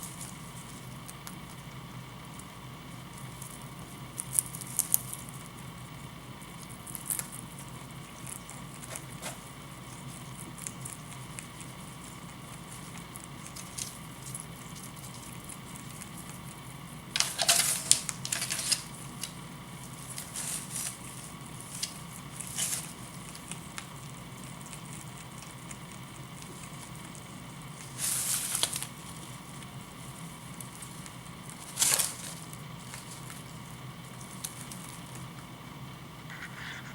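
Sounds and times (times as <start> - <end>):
faint background hum: 0.0 - 36.9
rabbit munching hay: 0.0 - 36.9.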